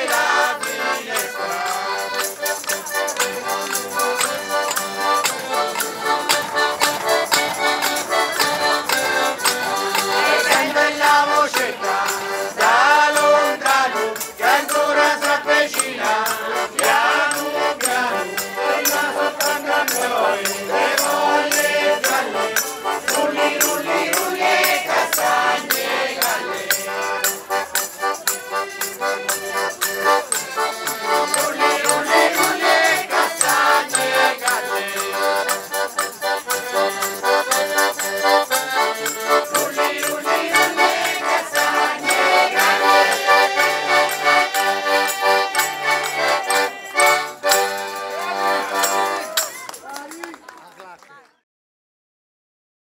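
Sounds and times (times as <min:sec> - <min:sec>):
button accordion folk tune: 0:00.0 - 0:49.8
jingle stick shaken: 0:00.0 - 0:50.1.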